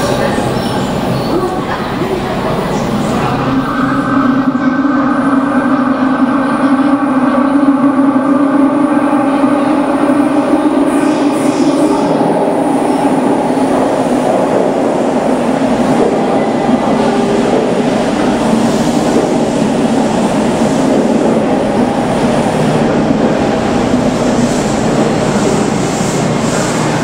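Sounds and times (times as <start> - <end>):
subway train rumbling to a stop: 0.0 - 27.0.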